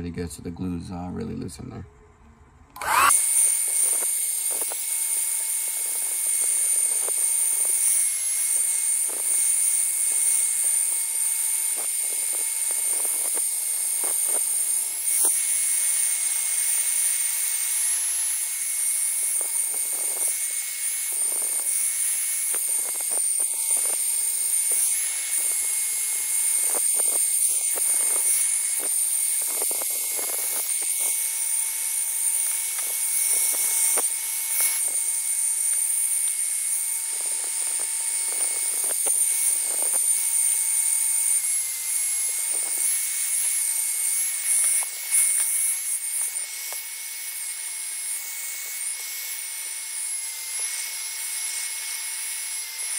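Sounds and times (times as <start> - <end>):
hair dryer blowing: 2.8 - 52.9.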